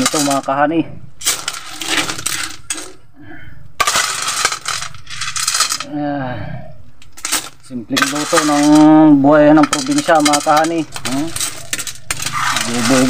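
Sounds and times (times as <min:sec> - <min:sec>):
snail shells clattering in metal pot: 0:00.0 - 0:03.0, 0:03.8 - 0:05.9, 0:07.0 - 0:13.0.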